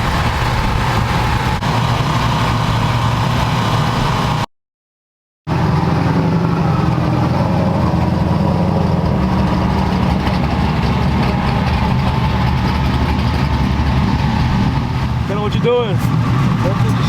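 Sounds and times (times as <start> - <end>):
large engine idling: 0.0 - 4.5, 5.5 - 17.0.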